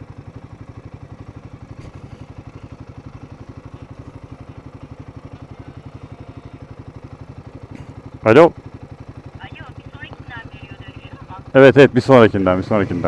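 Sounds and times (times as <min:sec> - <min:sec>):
single-cylinder engine running: 0:00.0 - 0:13.0.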